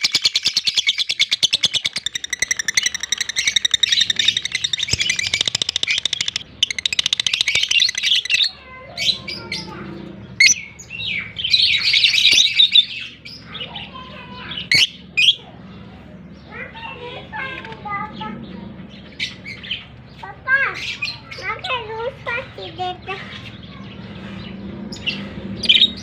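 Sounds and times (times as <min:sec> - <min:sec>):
lovebirds chirping: 0:00.0 - 0:26.0.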